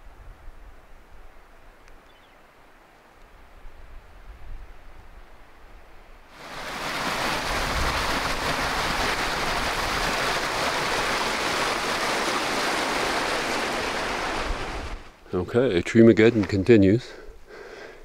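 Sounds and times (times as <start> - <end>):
strong wind rushing through trees: 0.0 - 15.5.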